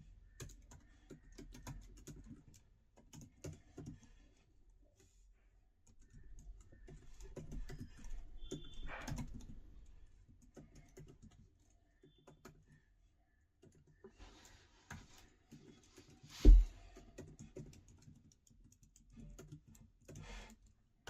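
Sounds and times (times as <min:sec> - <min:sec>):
laptop keyboard typing: 0:00.2 - 0:05.1, 0:05.8 - 0:20.8.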